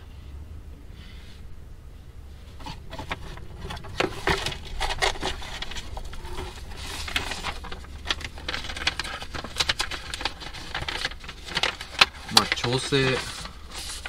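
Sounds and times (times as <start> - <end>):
low steady hum: 0.0 - 14.0
paper rustling: 2.6 - 14.0.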